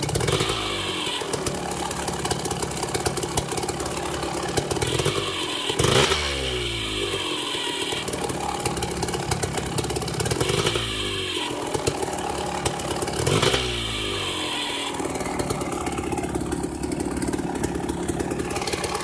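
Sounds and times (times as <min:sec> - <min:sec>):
dirt bike engine idling with rattle: 0:00.0 - 0:19.0
engine revving: 0:00.0 - 0:19.0.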